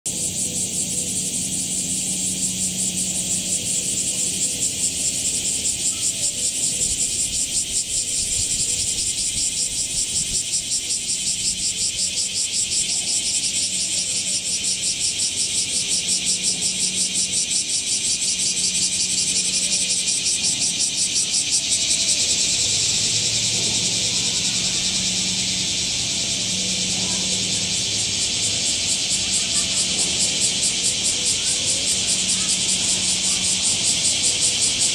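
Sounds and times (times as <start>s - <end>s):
cicadas buzzing: 0.1s - 34.9s.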